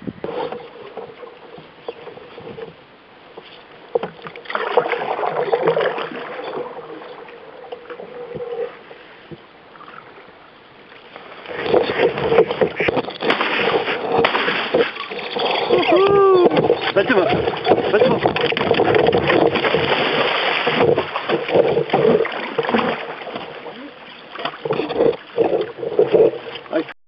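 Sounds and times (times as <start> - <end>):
paddle strokes: 0.0 - 26.9
water washing against hull: 0.0 - 26.9.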